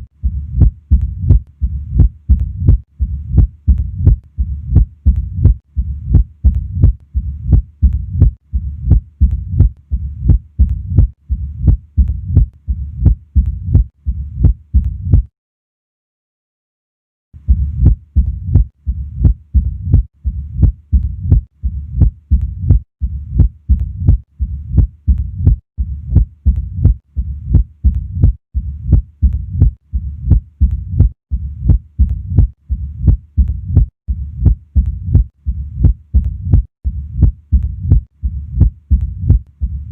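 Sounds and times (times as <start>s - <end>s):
heart murmur rumbling: 0.0s - 15.3s, 17.5s - 39.9s
heartbeat through stethoscope: 0.0s - 15.3s, 17.4s - 39.9s.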